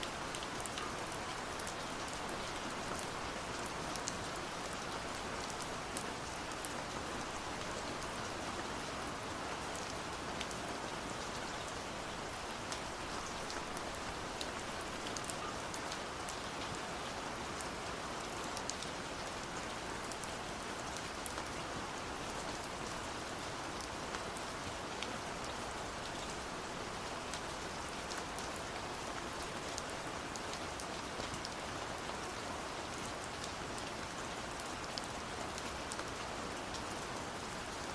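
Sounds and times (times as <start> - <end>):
gentle rain hiss: 0.0 - 37.9.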